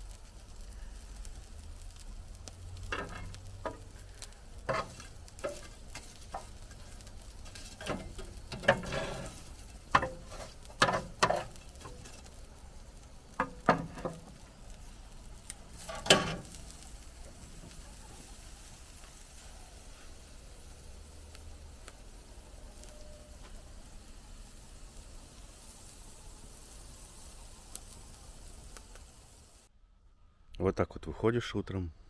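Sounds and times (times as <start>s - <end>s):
meat sizzling on grill: 0.0s - 29.7s
wood fire crackling and popping: 0.0s - 29.7s.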